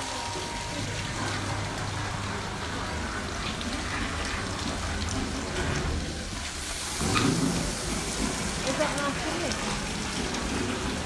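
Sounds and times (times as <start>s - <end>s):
machine hum: 0.0s - 9.0s
water spraying and splashing: 0.0s - 11.0s.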